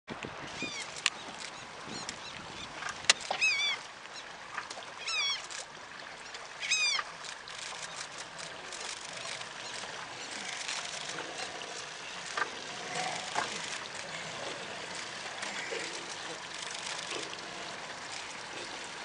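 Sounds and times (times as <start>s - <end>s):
bird calling: 0.5s - 4.4s, 5.0s - 5.6s, 6.6s - 18.9s
crackling background with clicks: 0.8s - 5.7s, 6.3s - 18.9s.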